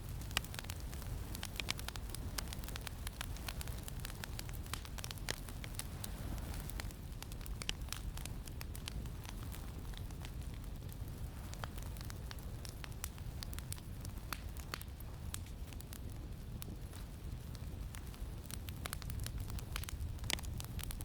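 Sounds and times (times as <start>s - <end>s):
campfire crackling and popping: 0.0s - 21.0s
low rumble of wind: 0.0s - 21.0s.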